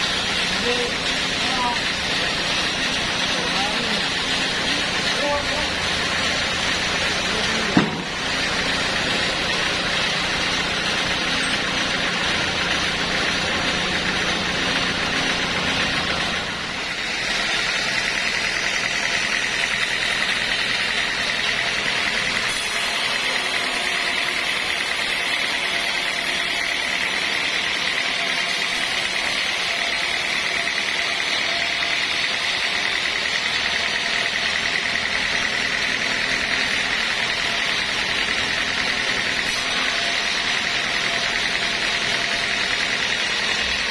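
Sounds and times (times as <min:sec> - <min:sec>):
sawmill low hum: 0:00.0 - 0:43.9.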